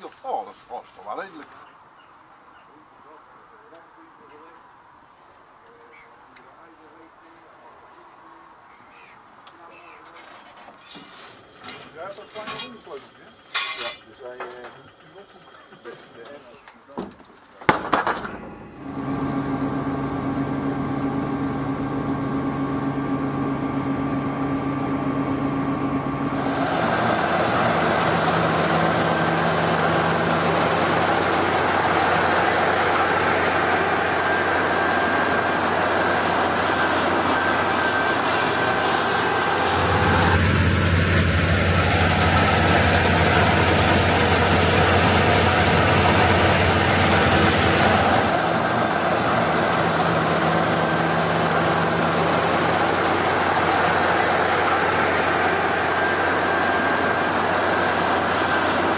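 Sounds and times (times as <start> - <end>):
combine harvester running: 9.8 - 16.6, 17.7 - 58.9.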